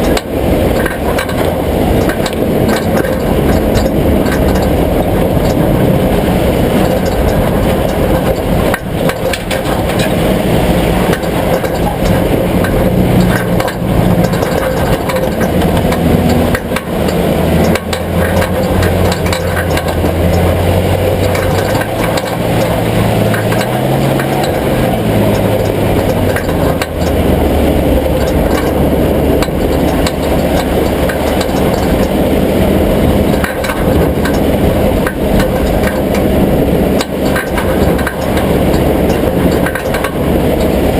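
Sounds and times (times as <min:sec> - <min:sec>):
engine knocks and clicks: 0:00.0 - 0:40.9
vehicle engine running: 0:00.0 - 0:40.9.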